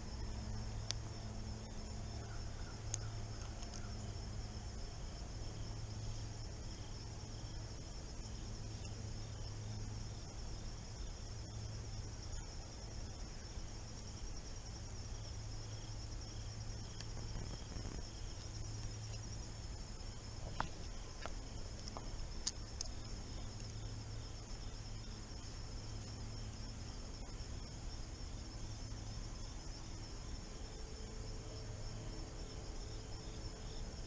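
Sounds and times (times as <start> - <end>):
crickets chirping: 0.0 - 34.0
low steady hum: 0.0 - 34.0.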